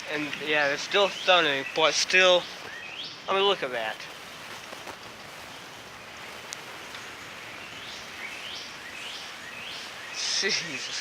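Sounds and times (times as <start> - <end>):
bird chirps: 0.0 - 11.0
water dripping and running: 0.0 - 11.0.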